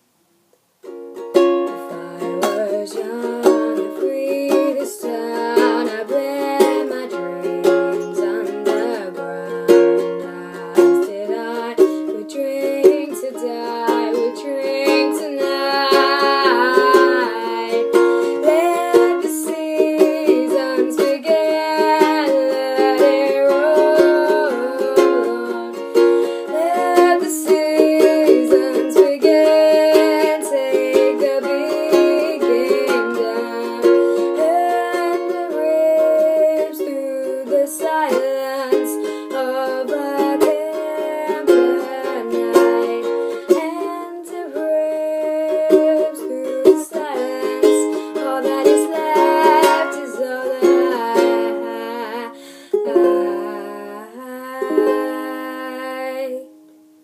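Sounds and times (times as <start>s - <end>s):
ukulele strumming: 0.8s - 57.0s
young man singing: 1.7s - 56.5s.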